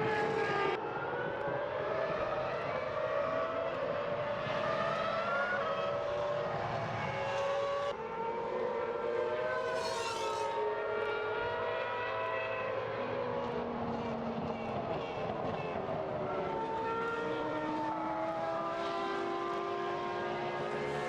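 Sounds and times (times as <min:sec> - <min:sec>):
racing car engines revving: 0:00.0 - 0:21.0.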